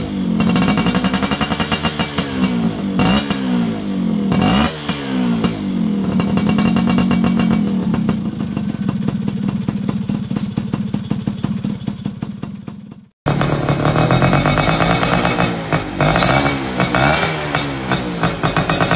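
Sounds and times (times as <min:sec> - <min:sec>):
two-stroke motorcycle engine revving: 0:00.0 - 0:18.9.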